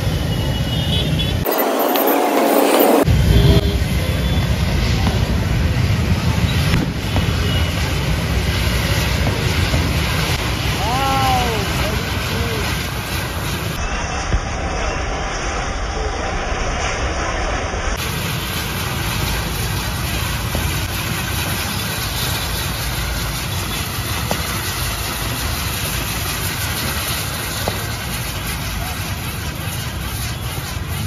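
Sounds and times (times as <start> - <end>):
firework wheel hissing: 0.0 - 31.0.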